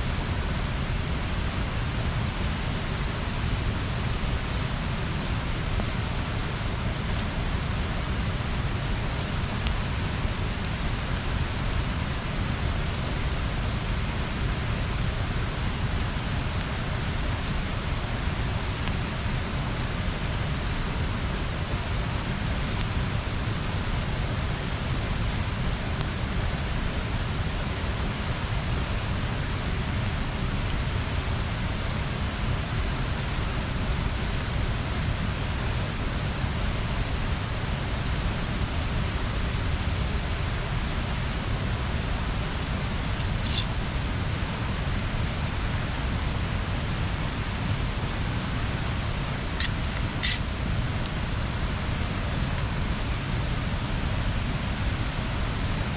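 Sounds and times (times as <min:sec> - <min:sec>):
bonfire rushing and crackling: 0:00.0 - 0:55.9.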